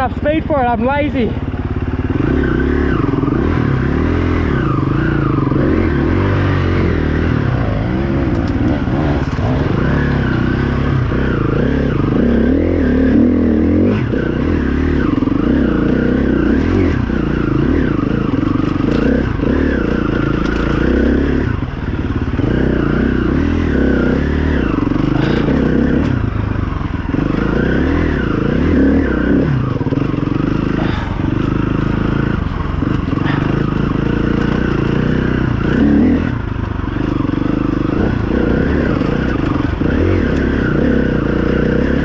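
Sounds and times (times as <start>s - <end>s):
dirt bike engine revving: 0.0s - 42.0s
clatter: 6.8s - 42.0s.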